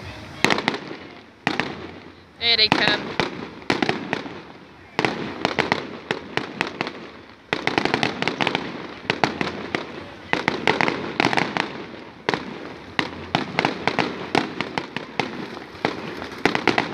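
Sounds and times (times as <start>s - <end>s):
fireworks bangs and crackles: 0.0s - 16.9s
fireworks rumble: 0.0s - 16.9s.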